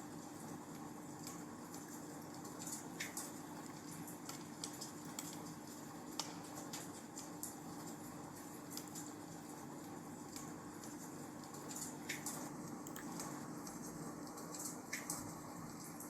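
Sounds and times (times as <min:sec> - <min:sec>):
faint steady hiss: 0:00.0 - 0:16.0
fire crackling and popping: 0:00.2 - 0:16.0.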